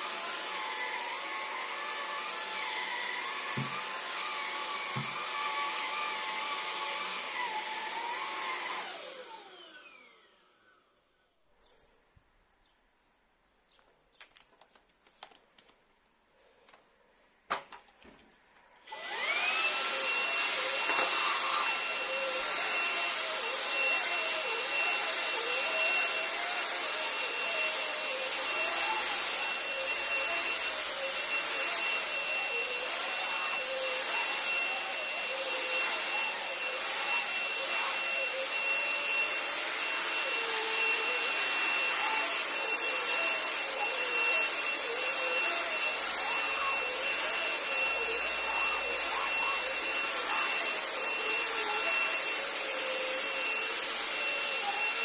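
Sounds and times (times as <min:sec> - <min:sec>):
vacuum motor whine: 0:00.0 - 0:10.9, 0:18.9 - 0:55.0.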